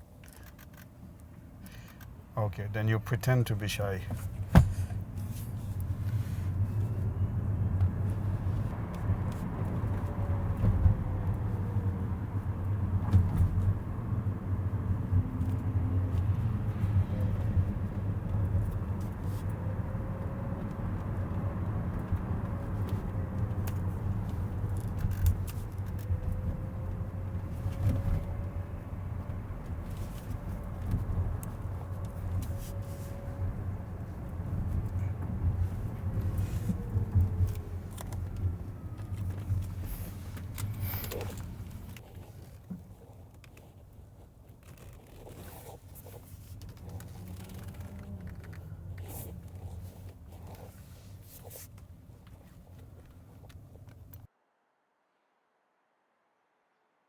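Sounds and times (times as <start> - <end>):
road and tyre rumble: 0.0 - 54.4.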